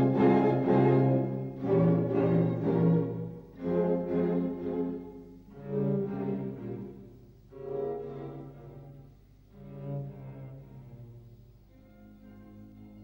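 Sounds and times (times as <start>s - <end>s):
classical string chamber music: 0.0s - 13.0s.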